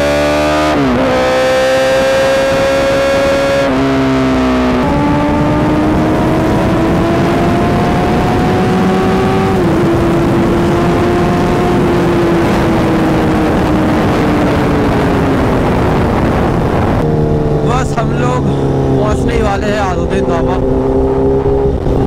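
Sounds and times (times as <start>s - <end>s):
motorcycle engine at high speed: 0.0s - 22.0s
wind rush: 0.7s - 22.0s.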